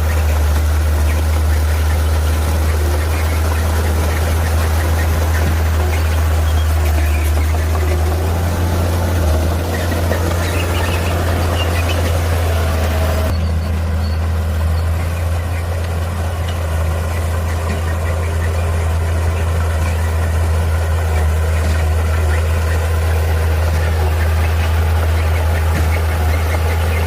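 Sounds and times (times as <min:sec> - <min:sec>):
diesel engine droning: 0:00.0 - 0:27.0
higher-pitched machine noise: 0:00.0 - 0:27.0.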